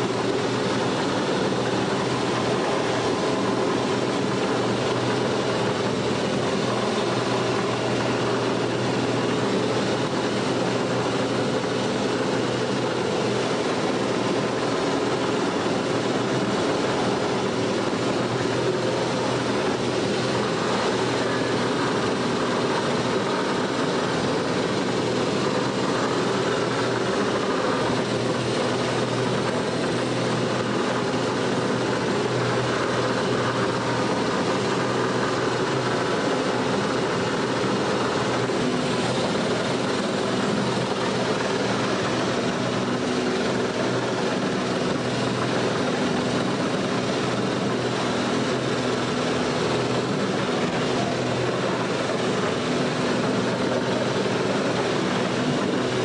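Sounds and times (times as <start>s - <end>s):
boat engine running: 0.0s - 56.0s
rush of wind and water: 0.0s - 56.0s.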